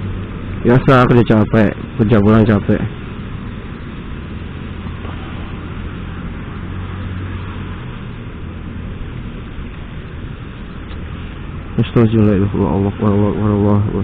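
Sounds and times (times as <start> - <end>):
motorcycle engine humming: 0.0 - 14.0
wind and road noise: 0.0 - 14.0.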